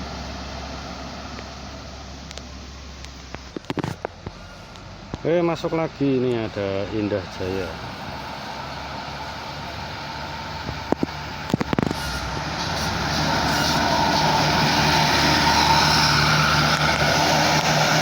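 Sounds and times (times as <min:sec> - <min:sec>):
bus engine passing close: 0:00.0 - 0:18.0.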